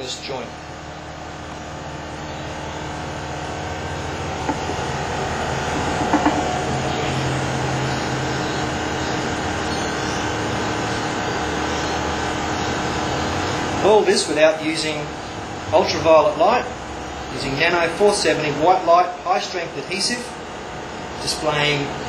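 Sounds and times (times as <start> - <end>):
mechanical rumble and hum: 0.0 - 22.0.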